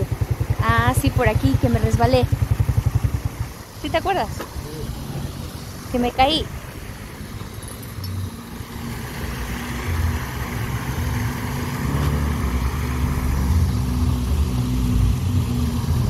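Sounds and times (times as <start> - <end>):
car engine running: 0.0 - 16.0
road noise rumble: 0.0 - 16.0.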